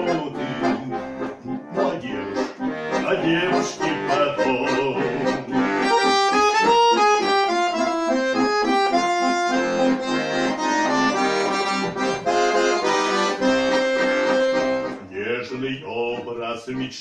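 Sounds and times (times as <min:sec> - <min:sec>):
button accordion playing: 0:00.0 - 0:17.0.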